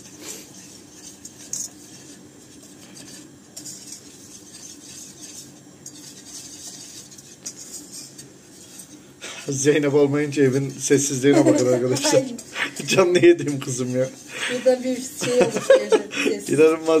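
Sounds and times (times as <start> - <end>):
utensil scraping metal pot: 0.0 - 17.0.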